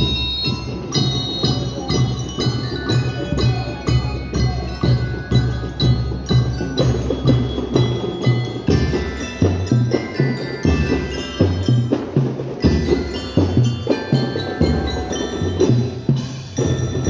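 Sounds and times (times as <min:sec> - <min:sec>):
bell tones: 0:00.0 - 0:17.0
drum beats: 0:00.0 - 0:17.0.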